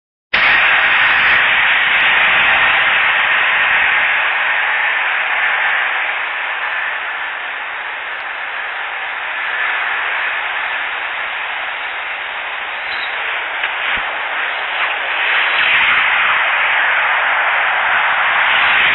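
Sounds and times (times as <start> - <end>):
airplane passing overhead: 0.4 - 18.9.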